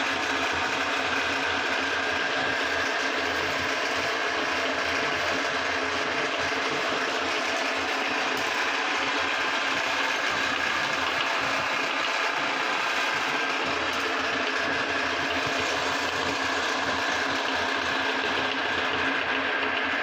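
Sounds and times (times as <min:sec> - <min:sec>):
electric meat grinder humming: 0:00.0 - 0:20.0.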